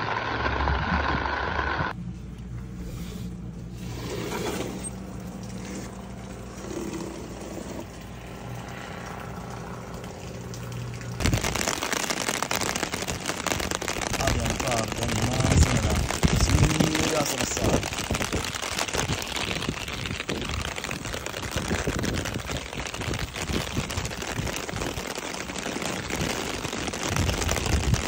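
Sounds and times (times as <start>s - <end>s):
rain pattering on umbrella: 5.1s - 28.0s.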